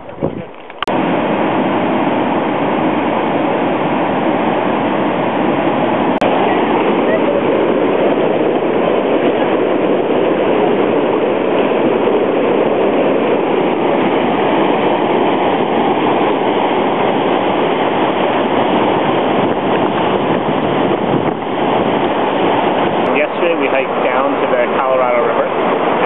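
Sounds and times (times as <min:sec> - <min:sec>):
river water rushing: 0:00.6 - 0:10.8, 0:12.5 - 0:26.0.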